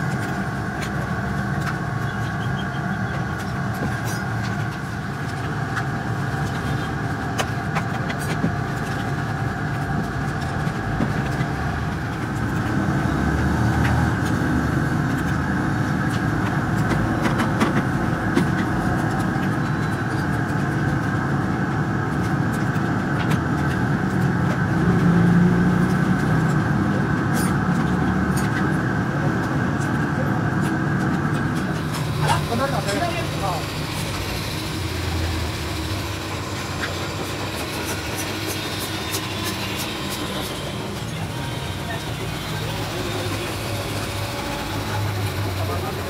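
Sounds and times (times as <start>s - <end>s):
mechanical drone: 0.0s - 46.0s.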